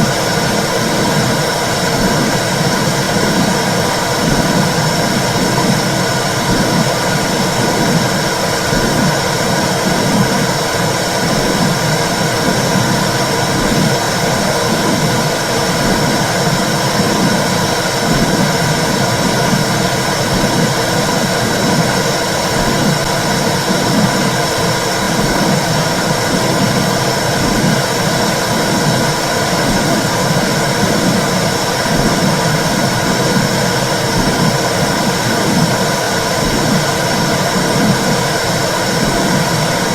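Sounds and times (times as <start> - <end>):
pulsing whooshing womb sound: 0.0 - 39.9.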